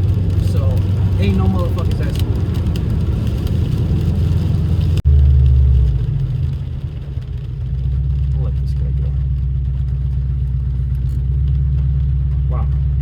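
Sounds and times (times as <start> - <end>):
car engine running: 0.0 - 13.0
road noise inside car: 0.0 - 13.0.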